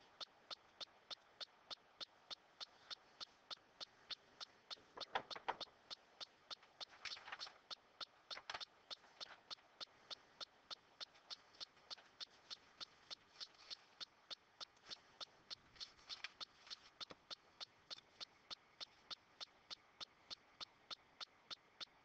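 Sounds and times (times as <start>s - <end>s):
faint even ticking: 0.0s - 22.0s.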